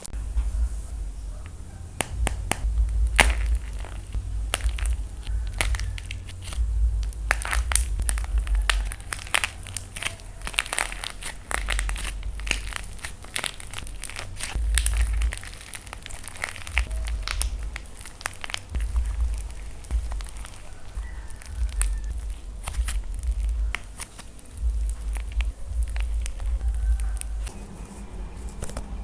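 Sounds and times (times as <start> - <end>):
dried clay cracking and crunching: 0.0 - 29.0
low rumble: 0.0 - 29.0.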